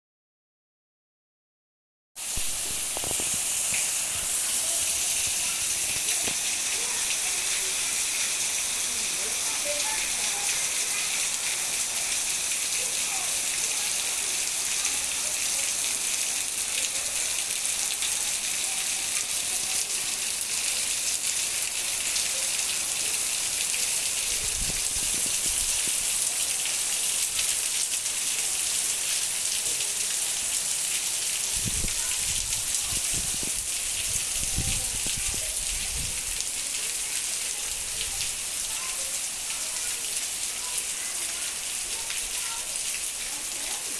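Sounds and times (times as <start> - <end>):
heavy rain: 2.2 - 43.9.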